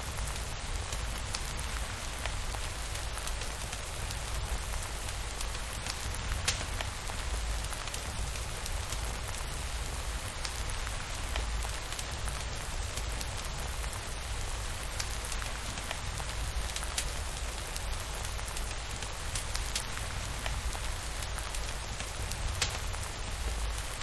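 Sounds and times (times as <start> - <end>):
steady rain hiss: 0.0 - 24.0
raindrops ticking: 0.3 - 24.0.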